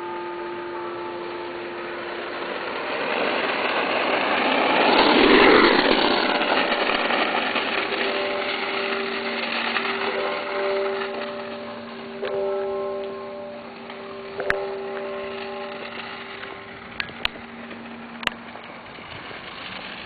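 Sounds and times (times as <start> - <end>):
board wheels rolling on pavement: 0.0 - 20.0
steady tones: 0.0 - 20.0.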